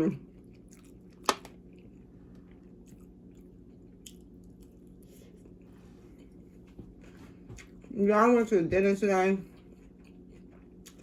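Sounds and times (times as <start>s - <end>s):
person chewing crunchy salad: 0.1s - 8.1s, 9.4s - 11.0s.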